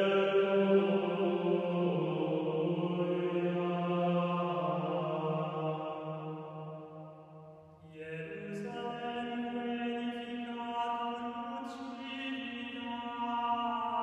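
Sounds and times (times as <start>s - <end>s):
slow chant with held notes: 0.0s - 14.0s.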